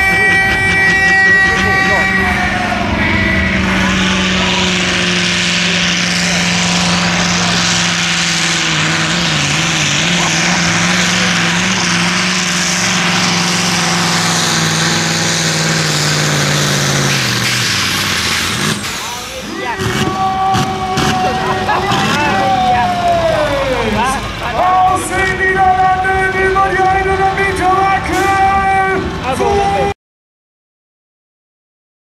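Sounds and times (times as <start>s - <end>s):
diesel truck engine under load: 0.0s - 29.9s.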